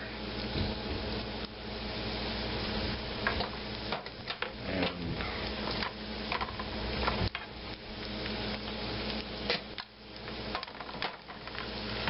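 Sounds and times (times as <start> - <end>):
mushrooms sizzling in a pan: 0.0 - 12.0.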